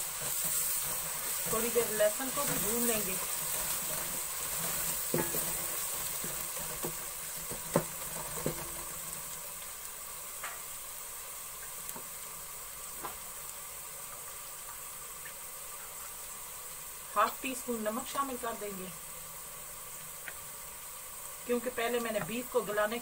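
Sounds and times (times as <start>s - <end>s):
onions and garlic frying in oil: 0.0s - 23.0s.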